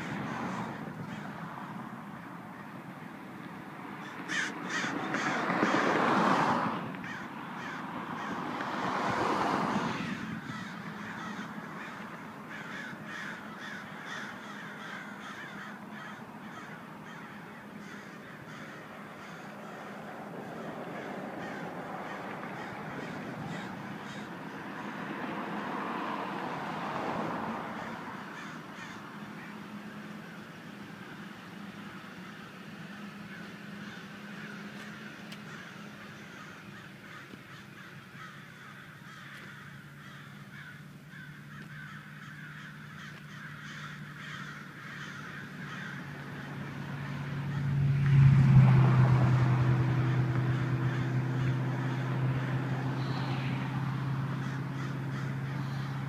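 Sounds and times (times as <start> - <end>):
crows cawing: 0.0 - 56.0.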